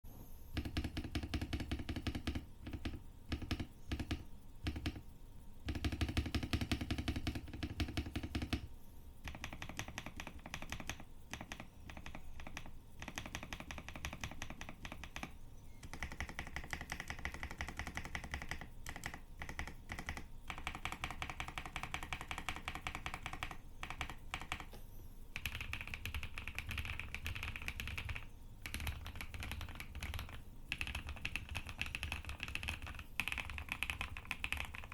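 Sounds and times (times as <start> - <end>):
mechanical keyboard typing: 0.5 - 34.9.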